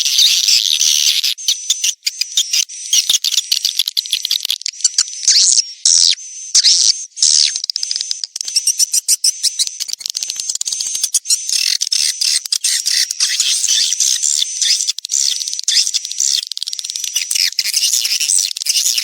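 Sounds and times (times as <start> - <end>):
swiftlets twittering and chirping: 0.0 - 19.0.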